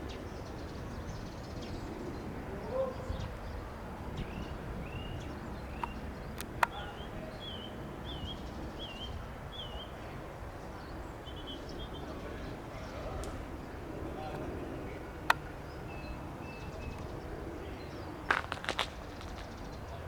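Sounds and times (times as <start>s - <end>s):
low outdoor background noise: 0.0s - 20.0s.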